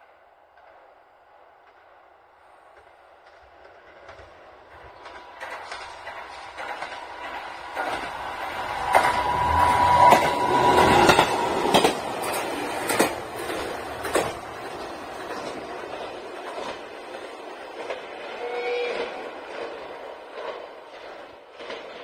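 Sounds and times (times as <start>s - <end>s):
railcar passing with whine: 0.0s - 22.0s
wheels clacking: 2.7s - 22.0s.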